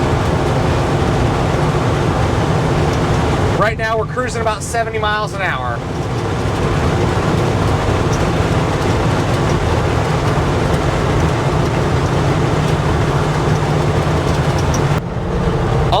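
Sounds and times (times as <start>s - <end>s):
engine and exhaust drone: 0.0s - 16.0s
road tyre and wind noise: 0.0s - 16.0s.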